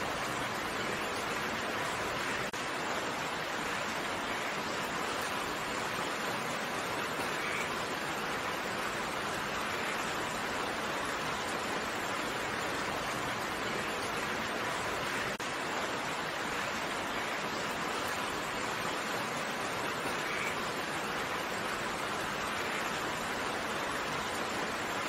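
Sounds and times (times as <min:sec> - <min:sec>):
steady rainfall: 0:00.0 - 0:25.0.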